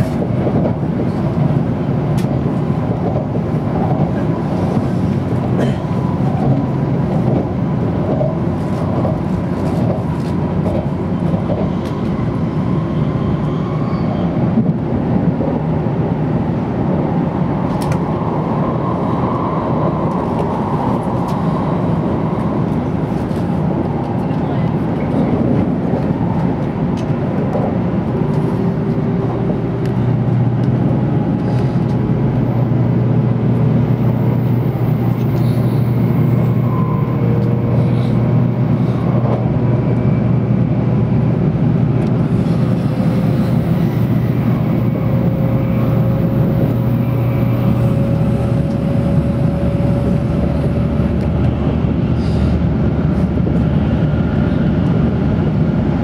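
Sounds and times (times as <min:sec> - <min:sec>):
train cabin running noise: 0:00.0 - 0:56.0.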